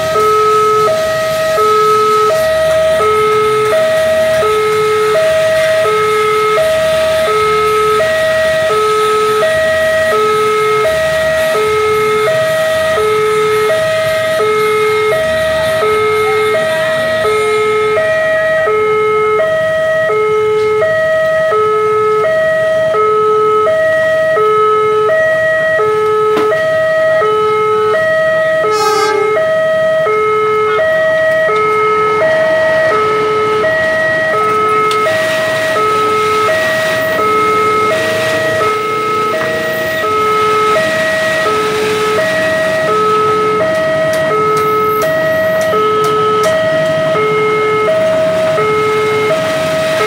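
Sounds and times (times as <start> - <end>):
level crossing two-tone alarm: 0.0 - 50.0.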